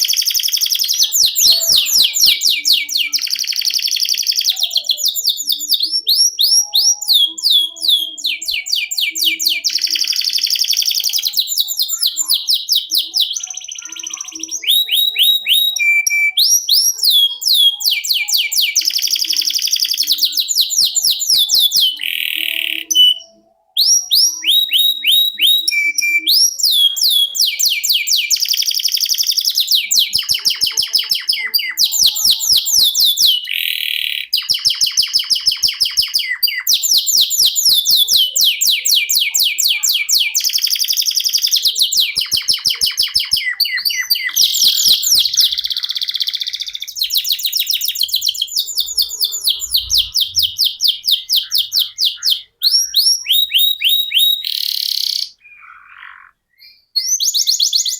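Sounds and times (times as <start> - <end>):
canary singing rolling trills: 0.0 - 57.9.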